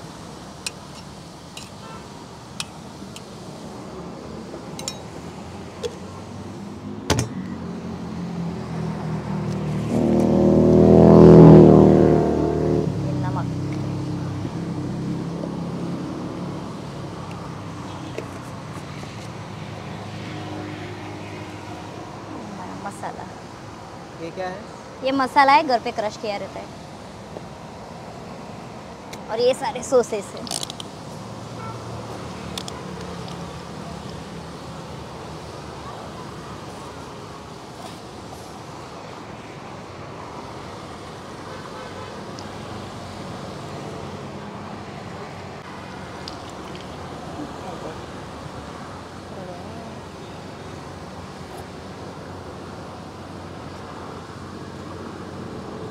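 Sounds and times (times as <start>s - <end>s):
roadside traffic rumble: 0.0s - 55.9s
street noise: 0.0s - 55.9s.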